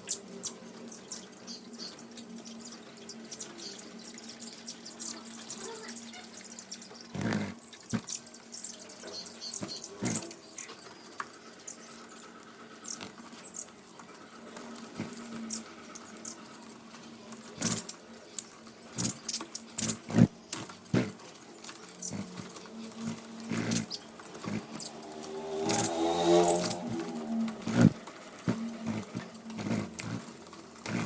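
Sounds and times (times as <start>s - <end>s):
beaks clicking on seed and cage: 0.0s - 16.7s, 17.3s - 31.0s.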